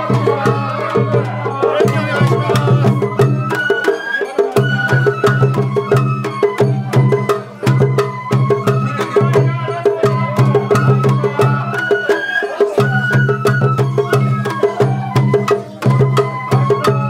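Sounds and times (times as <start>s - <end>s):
bamboo flute melody: 0.0s - 17.0s
taiko drums: 0.0s - 17.0s.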